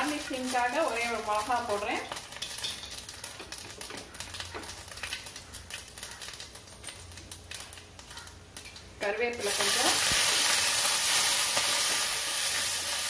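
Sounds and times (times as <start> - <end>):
faint oil sizzle: 0.0 - 13.0
seeds popping in hot oil: 0.0 - 13.0.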